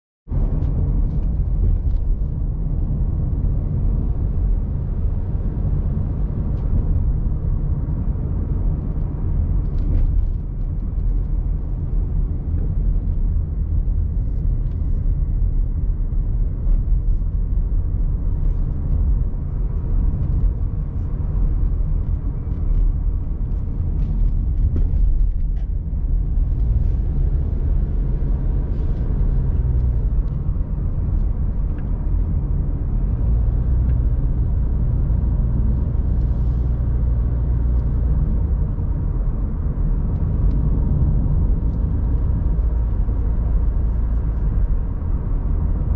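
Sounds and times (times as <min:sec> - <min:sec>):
steady low rumble: 0:00.3 - 0:45.9.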